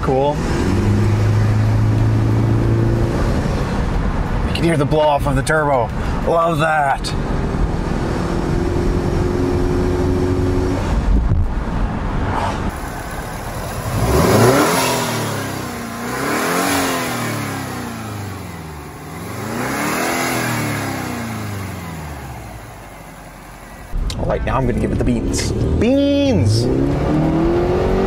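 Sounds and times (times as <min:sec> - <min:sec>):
car engine revving: 0:00.0 - 0:04.8, 0:06.0 - 0:28.0
car engine running: 0:00.0 - 0:28.0.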